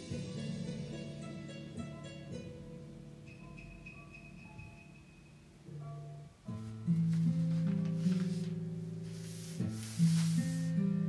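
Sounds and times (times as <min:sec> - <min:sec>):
quiet instrumental music: 0:00.0 - 0:11.0.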